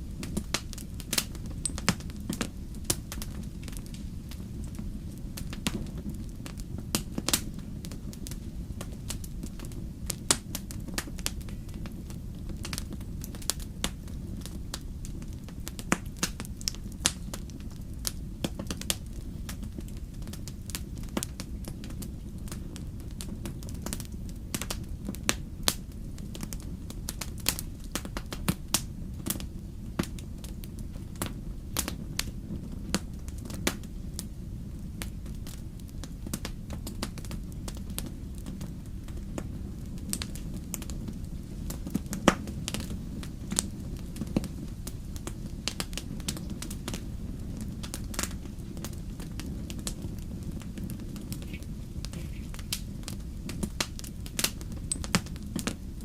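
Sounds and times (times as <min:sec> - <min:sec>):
fire crackling in fireplace: 0:00.0 - 0:56.0
low steady rumble: 0:00.0 - 0:56.0
sharp pops of fire: 0:00.0 - 0:56.0.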